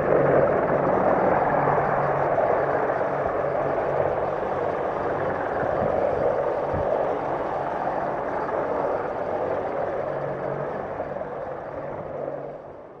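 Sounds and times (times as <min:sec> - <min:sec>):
helicopter flying by: 0:00.0 - 0:13.0.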